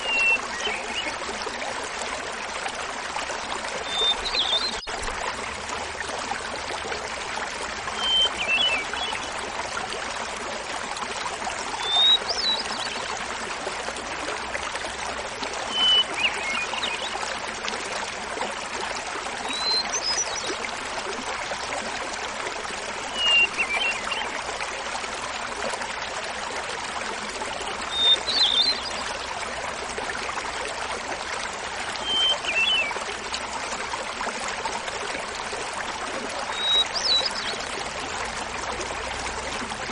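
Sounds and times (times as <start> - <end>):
small waterfall babbling: 0.0 - 39.9.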